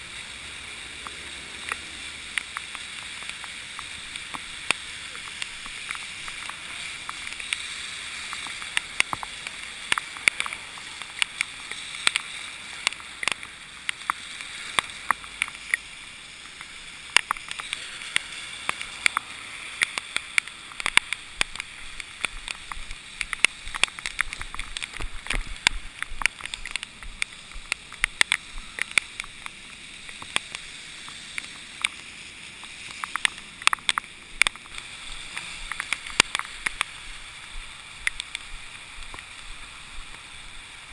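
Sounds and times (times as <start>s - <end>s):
wet road noise: 0.0s - 40.9s
wind hiss: 0.0s - 40.9s.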